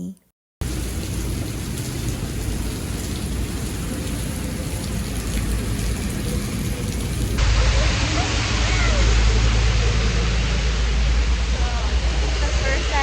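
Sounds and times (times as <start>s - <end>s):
dull low rumble: 0.6s - 13.0s
heavy rain pouring: 0.6s - 13.0s.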